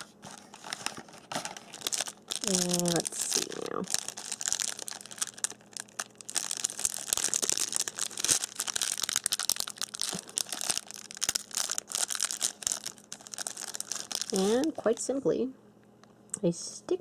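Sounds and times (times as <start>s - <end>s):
plastic wrapper crinkling: 0.0s - 15.2s.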